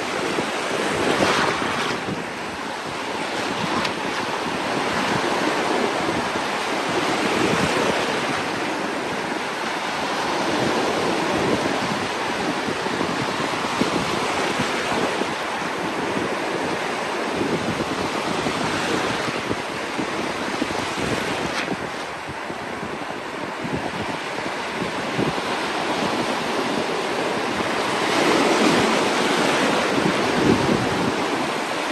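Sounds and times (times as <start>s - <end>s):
ocean surf breaking on beach: 0.0s - 31.9s
wind buffeting microphone: 0.0s - 31.9s.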